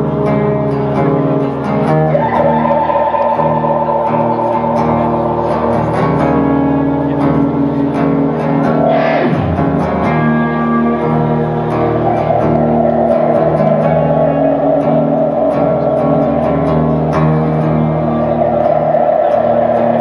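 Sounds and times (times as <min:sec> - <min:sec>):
acoustic guitar strumming: 0:00.0 - 0:20.0
live rock band playing: 0:00.0 - 0:20.0.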